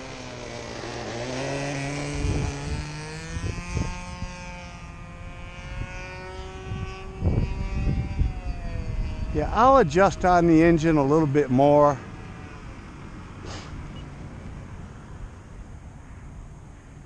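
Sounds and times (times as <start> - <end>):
model airplane engine at high throttle: 0.0 - 17.0.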